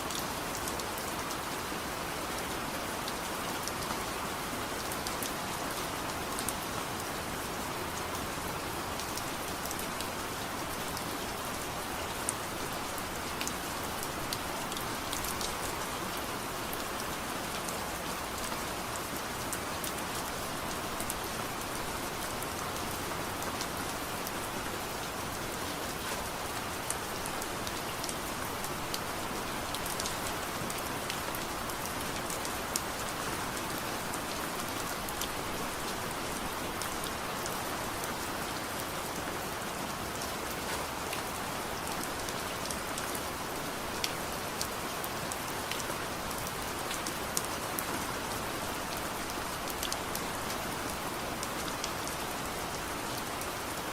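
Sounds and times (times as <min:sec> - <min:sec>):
steady soft rain: 0:00.0 - 0:53.9.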